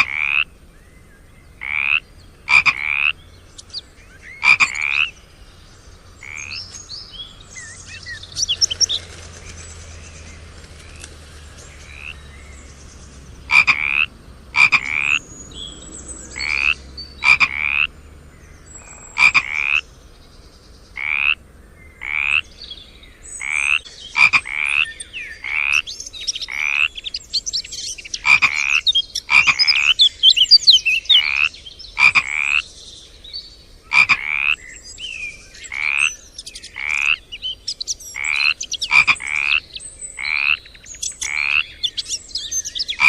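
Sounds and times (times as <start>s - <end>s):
frogs croaking: 0.0s - 10.4s, 11.6s - 43.0s.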